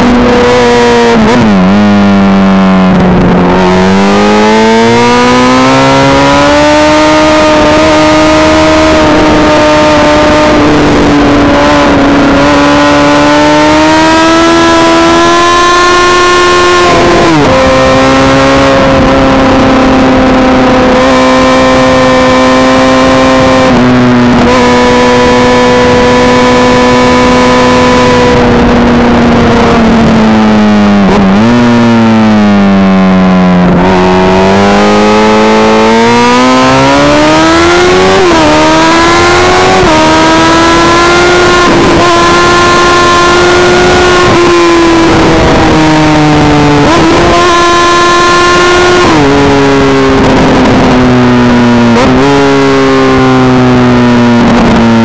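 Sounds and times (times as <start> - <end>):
wind rush: 0.0 - 31.6, 33.6 - 53.2
motorcycle engine at high revs: 0.0 - 55.0.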